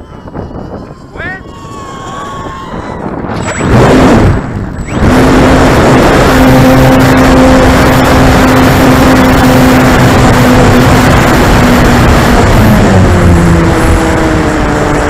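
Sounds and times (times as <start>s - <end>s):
wind rushing on microphone: 0.0s - 15.0s
electric motor hum: 1.8s - 15.0s.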